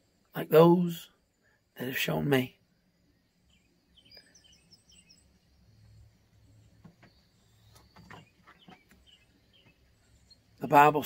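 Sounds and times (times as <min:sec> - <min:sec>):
faint birds chirping: 0:00.0 - 0:11.0
faint low hum: 0:00.0 - 0:11.0.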